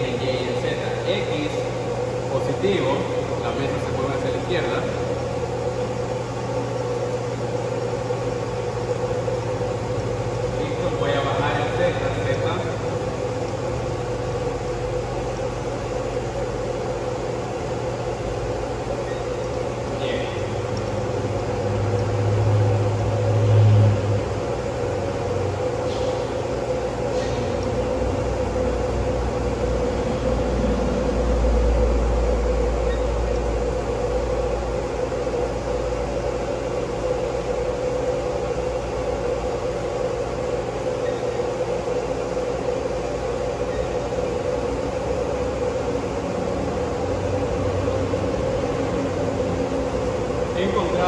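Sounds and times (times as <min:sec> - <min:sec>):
machining center hum: 0:00.0 - 0:51.0.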